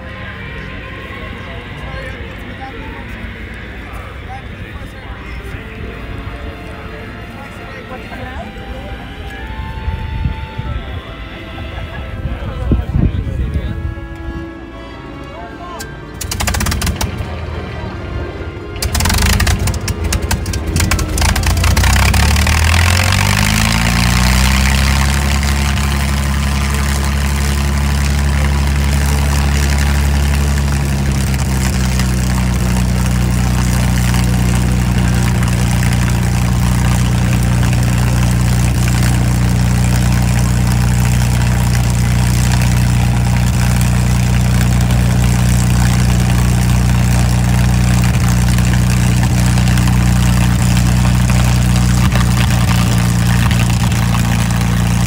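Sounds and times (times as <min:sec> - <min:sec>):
engine running loud: 0:00.0 - 0:55.0.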